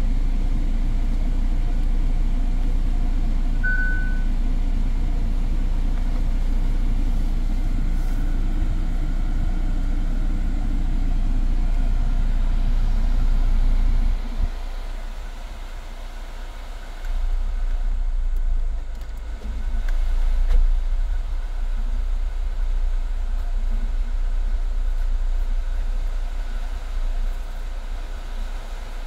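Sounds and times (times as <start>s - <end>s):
car cabin rumble: 0.0s - 29.0s.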